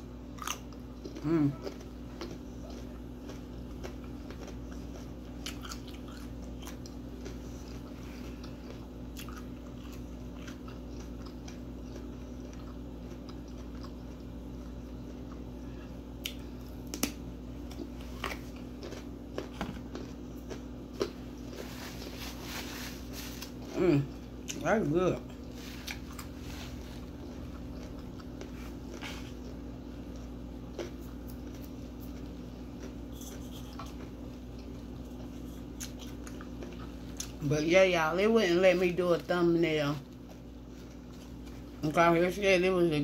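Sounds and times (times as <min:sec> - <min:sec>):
person chewing pizza: 0:00.0 - 0:42.0
steady low hum: 0:00.0 - 0:43.0.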